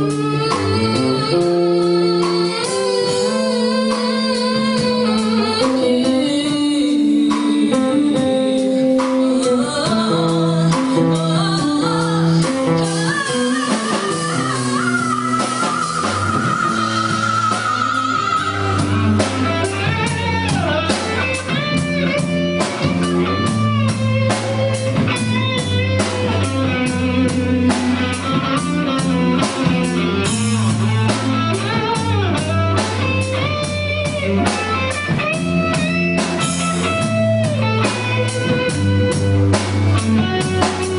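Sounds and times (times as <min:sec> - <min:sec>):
bass notes: 0:00.0 - 0:40.9
lead guitar: 0:00.0 - 0:40.9.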